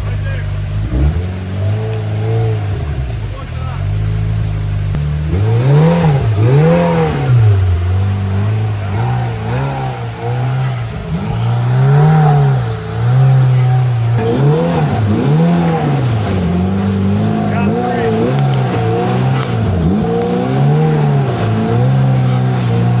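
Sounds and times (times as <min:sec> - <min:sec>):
engine revving up and down: 0:00.0 - 0:23.0.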